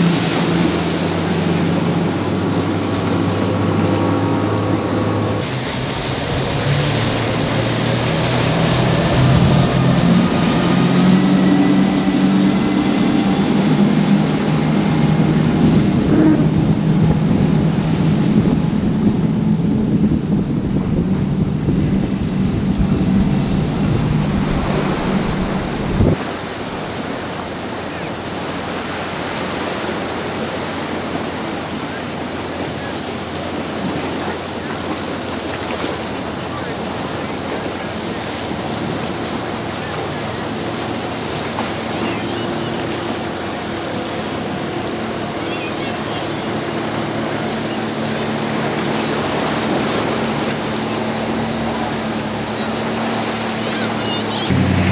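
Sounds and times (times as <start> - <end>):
motorboat engines humming: 0.0 - 54.9
surf: 0.0 - 54.9
wind: 0.0 - 54.9.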